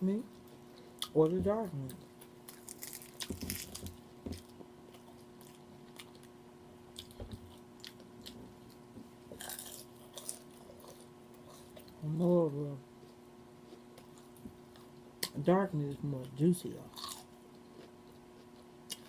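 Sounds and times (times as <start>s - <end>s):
chewing crispy fried chicken: 0.3s - 15.4s, 16.1s - 19.0s.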